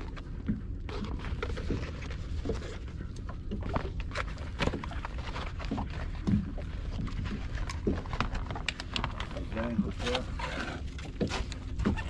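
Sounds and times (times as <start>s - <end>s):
knocks and clicks in boat: 0.0s - 12.0s
water lapping against boat hull: 0.0s - 12.0s.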